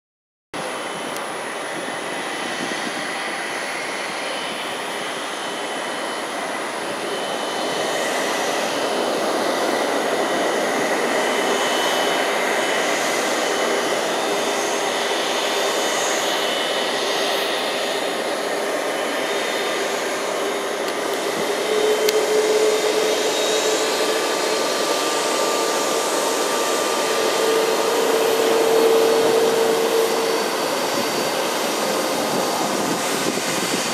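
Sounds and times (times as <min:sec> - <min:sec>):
jet engine whine: 0:00.6 - 0:33.9
jet engines rushing hiss: 0:00.6 - 0:33.9.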